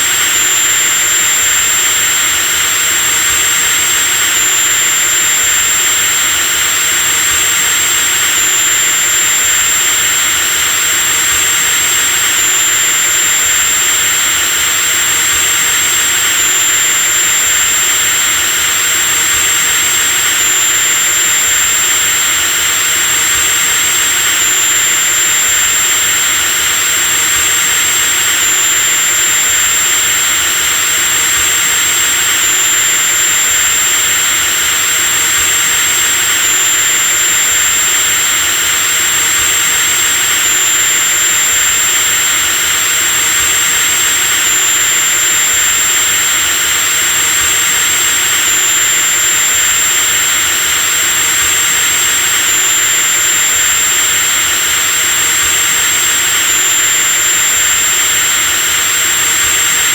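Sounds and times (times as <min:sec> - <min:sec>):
electric drill whining: 0:00.0 - 0:59.9.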